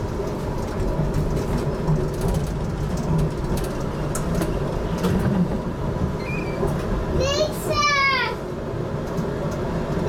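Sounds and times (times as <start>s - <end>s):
tram rumble from inside: 0.0s - 10.0s.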